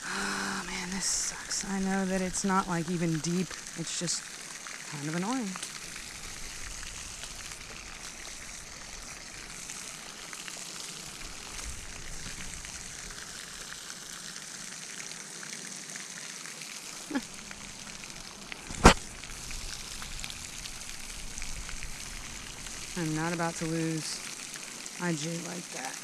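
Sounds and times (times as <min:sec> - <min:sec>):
fountain spray splashing: 0:00.0 - 0:26.0.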